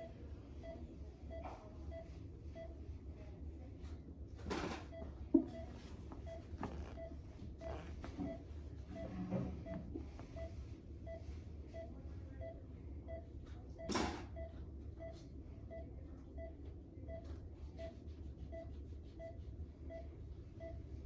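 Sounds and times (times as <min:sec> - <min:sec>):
patient monitor beeping: 0:00.0 - 0:02.9, 0:04.8 - 0:21.0
low steady hum: 0:00.0 - 0:21.0.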